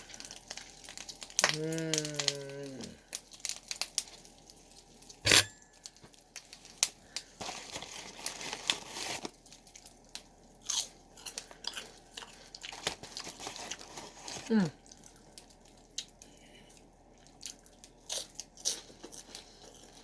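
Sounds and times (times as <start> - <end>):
chewing crunchy snack: 0.0 - 20.0.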